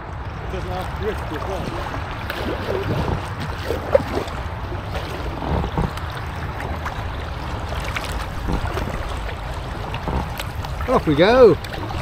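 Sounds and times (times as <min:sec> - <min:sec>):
paddles splashing in water: 0:00.0 - 0:12.0
steady low rumble: 0:00.0 - 0:12.0.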